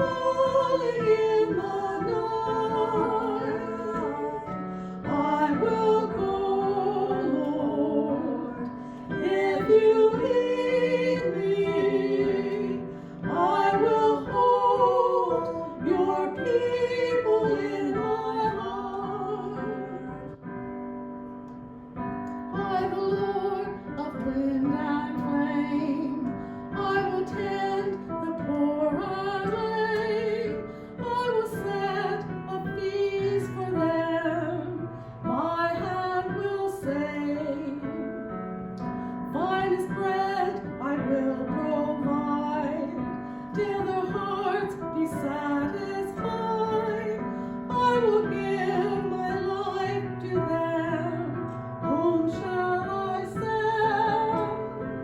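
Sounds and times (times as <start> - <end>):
woman singing a hymn: 0.0 - 20.5, 22.5 - 55.0
piano accompaniment: 0.0 - 55.0.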